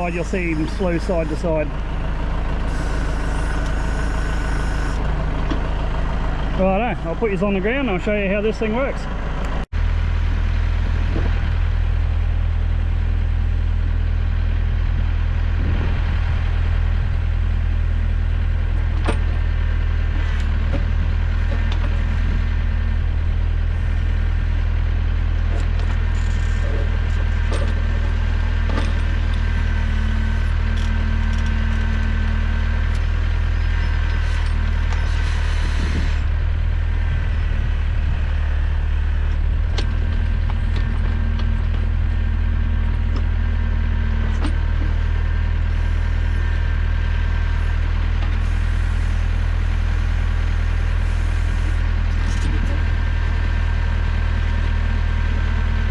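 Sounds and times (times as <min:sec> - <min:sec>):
tractor engine running steadily: 0:00.0 - 0:55.9.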